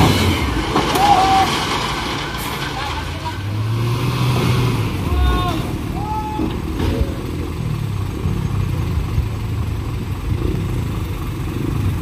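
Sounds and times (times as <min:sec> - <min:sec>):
heavy vehicle engines rumbling: 0:00.0 - 0:12.0.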